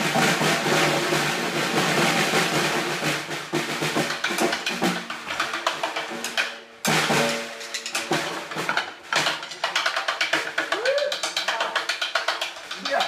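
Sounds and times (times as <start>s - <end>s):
snare drum flurries: 0.0s - 13.0s.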